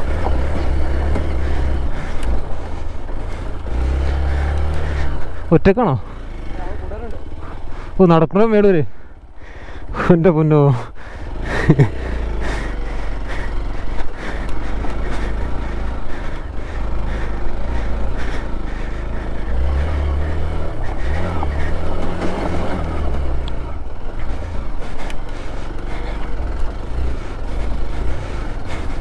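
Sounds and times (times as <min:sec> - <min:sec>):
off-road vehicle engine running: 0:00.0 - 0:29.0.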